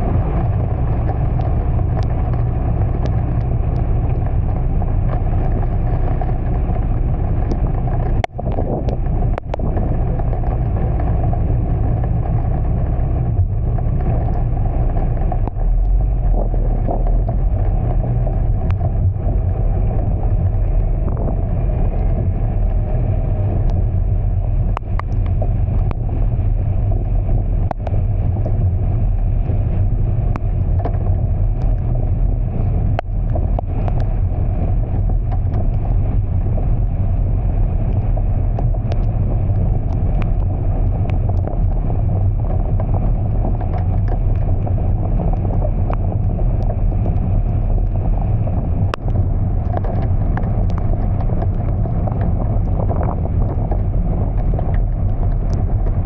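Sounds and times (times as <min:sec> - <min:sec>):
heavy rain: 0:00.0 - 0:56.0
vehicle rumbling: 0:00.0 - 0:56.0
wind noise on microphone: 0:00.0 - 0:56.0.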